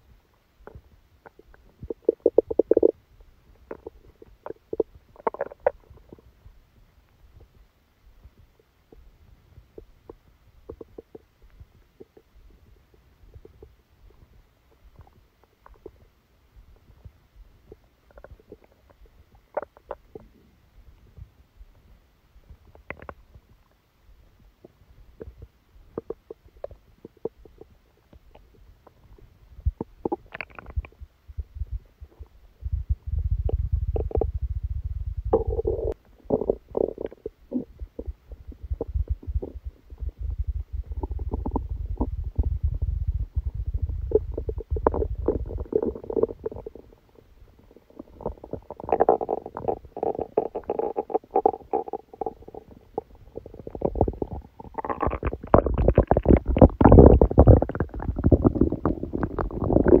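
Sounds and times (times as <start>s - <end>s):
stomach rumbling and gurgling: 0.0s - 60.0s.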